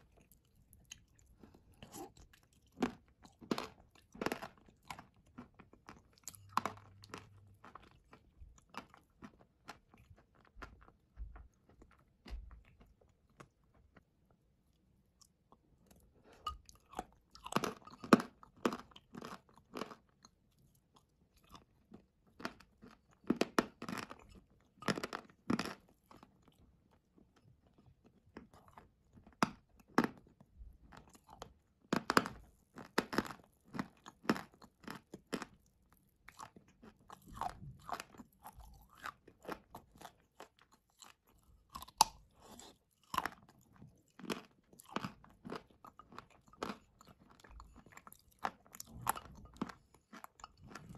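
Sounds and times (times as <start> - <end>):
person chewing wet clay: 0.0 - 50.9.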